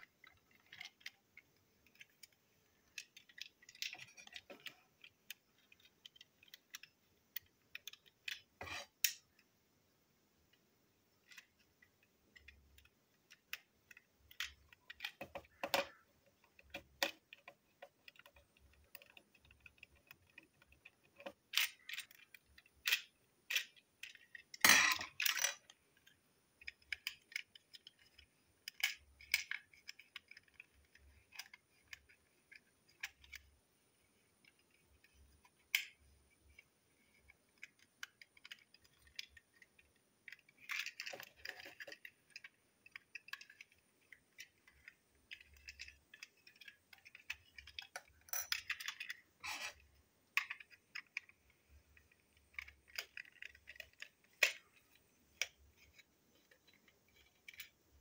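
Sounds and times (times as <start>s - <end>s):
small clicks of plastic parts: 0.0s - 9.5s, 10.5s - 58.0s
plastic parts clattering: 0.2s - 9.2s, 12.3s - 58.0s.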